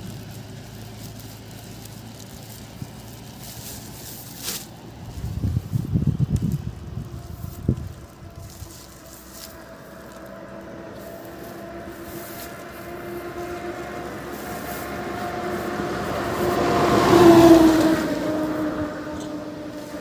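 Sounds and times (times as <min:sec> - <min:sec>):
vehicle passing by: 0:00.0 - 0:20.0.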